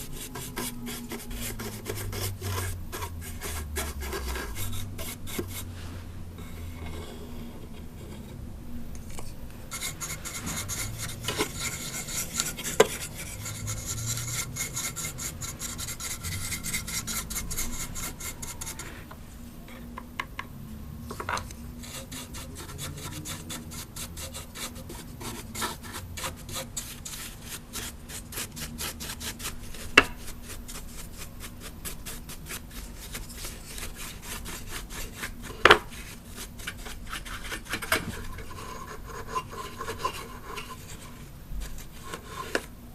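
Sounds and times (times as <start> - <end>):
brush scratching on plastic: 0.0 - 8.2, 9.2 - 19.0, 21.8 - 42.7.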